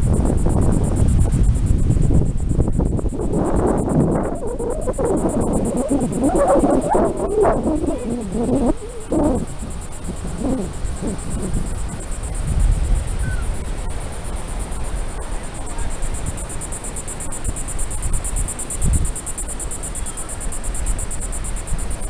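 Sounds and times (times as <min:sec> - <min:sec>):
high pulsing buzz: 0:00.0 - 0:22.0
wind rumbling on microphone: 0:00.0 - 0:22.0.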